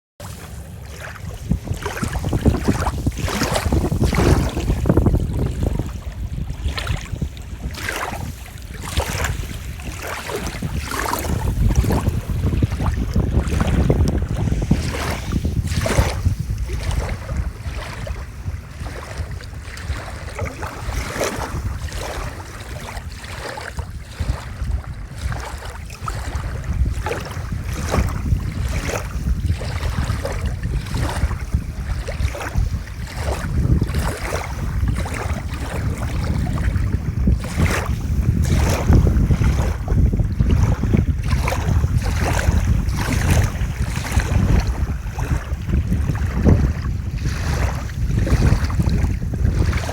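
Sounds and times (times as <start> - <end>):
lake waves lapping on shore: 0.2 - 49.9
wind rumbling on microphone: 0.2 - 49.9.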